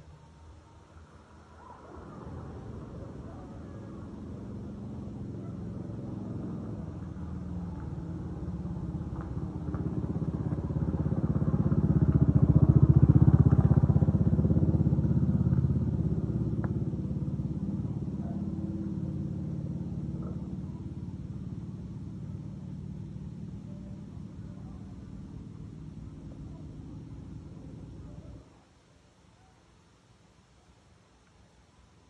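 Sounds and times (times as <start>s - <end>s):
vehicle engine passing by: 1.3s - 28.4s.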